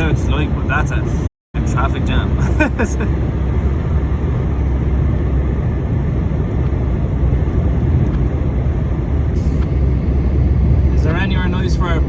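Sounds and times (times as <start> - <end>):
lorry engine rumble: 0.0 - 12.0.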